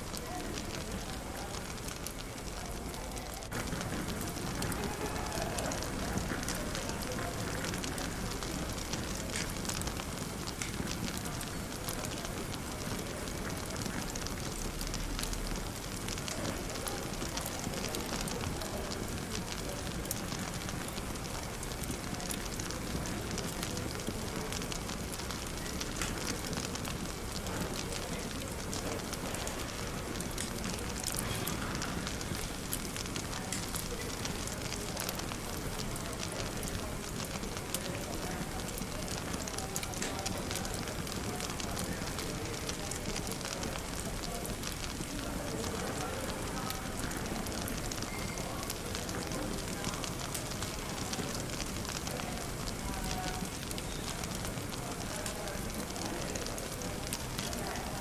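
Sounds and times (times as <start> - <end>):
indistinct chatter: 0.0 - 58.0
wood fire crackling: 0.0 - 58.0.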